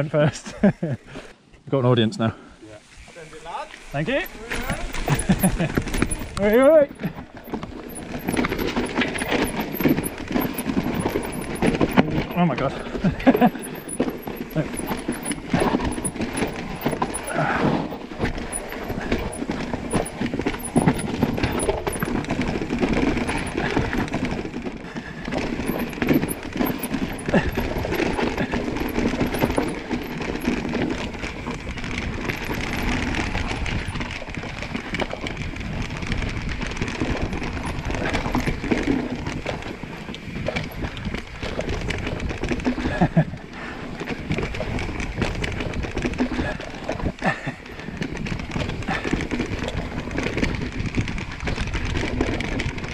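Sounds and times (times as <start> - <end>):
bike tyres rolling on dirt: 2.8 - 52.9
bike chain and frame rattling: 3.8 - 52.9.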